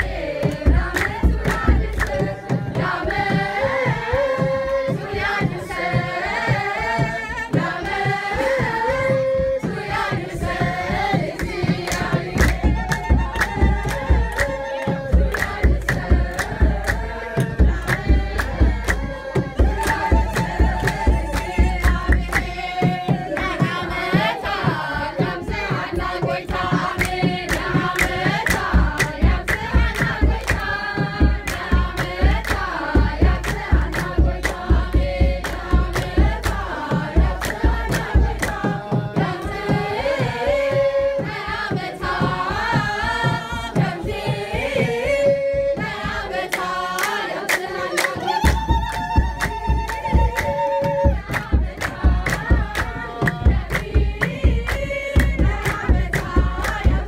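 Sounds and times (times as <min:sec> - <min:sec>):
rhythmic hand clapping: 0:00.0 - 0:57.0
women singing a hymn: 0:00.0 - 0:57.0.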